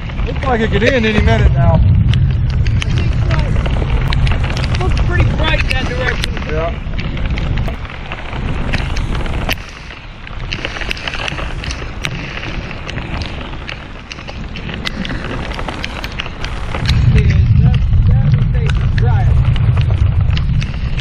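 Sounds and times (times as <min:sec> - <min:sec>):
heavy rain pelting: 0:00.0 - 0:21.0
wind buffeting microphone: 0:00.0 - 0:21.0.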